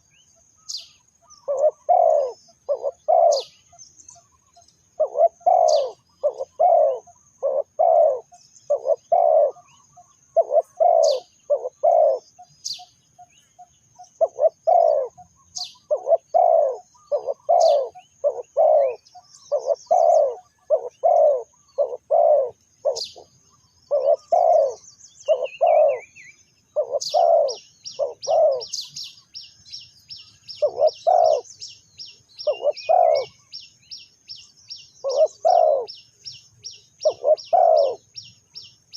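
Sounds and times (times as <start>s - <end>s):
small bird chirping: 0.0s - 38.9s
dove cooing: 1.2s - 29.1s, 30.3s - 31.8s, 32.4s - 33.6s, 35.0s - 36.0s, 37.0s - 38.2s.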